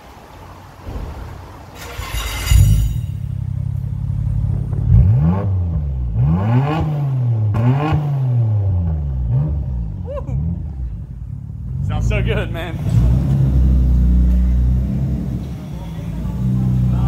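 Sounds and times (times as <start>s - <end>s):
car engine starting and revving: 0.6s - 17.0s.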